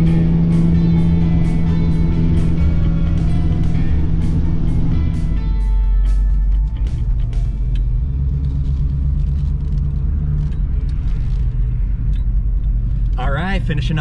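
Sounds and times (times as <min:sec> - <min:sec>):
car engine drone from inside cabin: 0:00.0 - 0:14.0.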